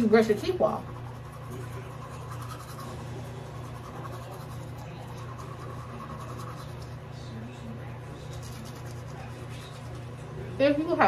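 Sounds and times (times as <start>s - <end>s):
toothbrush scrubbing teeth: 0.0s - 10.9s.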